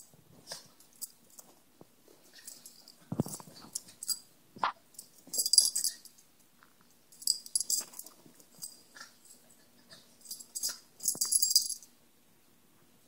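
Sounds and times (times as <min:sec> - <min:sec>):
collar tags jingling: 0:00.0 - 0:04.3, 0:04.9 - 0:06.4, 0:07.1 - 0:11.9.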